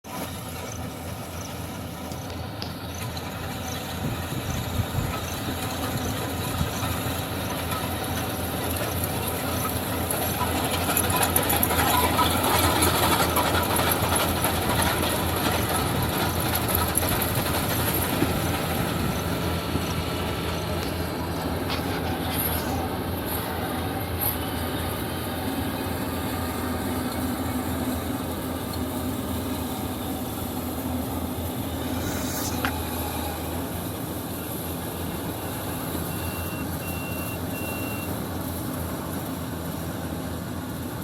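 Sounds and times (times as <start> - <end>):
harvester engine running: 0.0 - 41.0.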